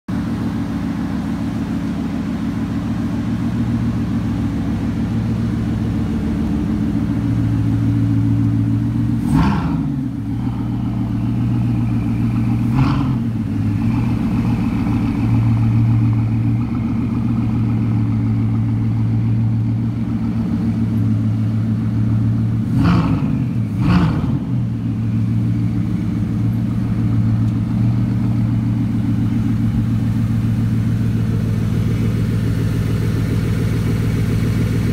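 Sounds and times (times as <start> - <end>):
car engine idling: 0.1 - 34.9
engine throttle blips: 0.1 - 34.9.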